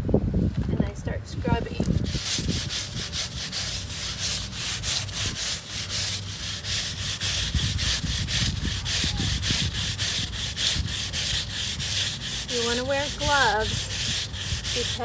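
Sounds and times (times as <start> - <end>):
scrub brush scrubbing wet stones: 1.8 - 15.0.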